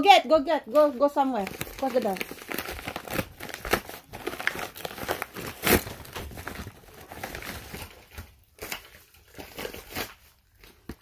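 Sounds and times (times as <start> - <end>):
puppy pad crinkling and rustling: 0.7 - 11.0.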